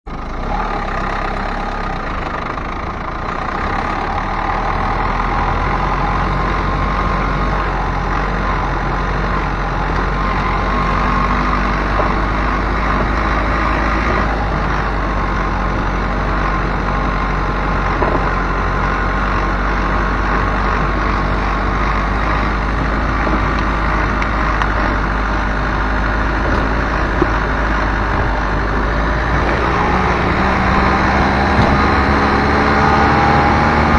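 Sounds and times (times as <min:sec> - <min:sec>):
car engine hum: 0:00.0 - 0:33.9.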